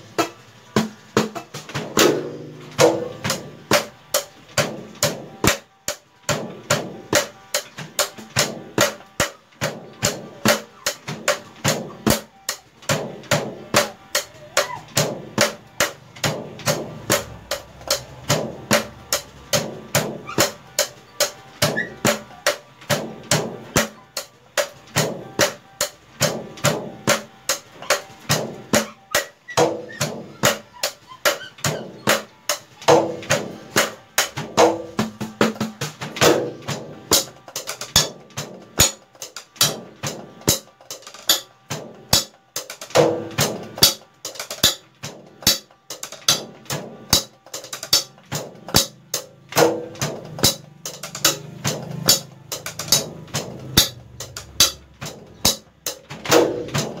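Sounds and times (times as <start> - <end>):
drumsticks clicking on pads: 0.2 - 57.0.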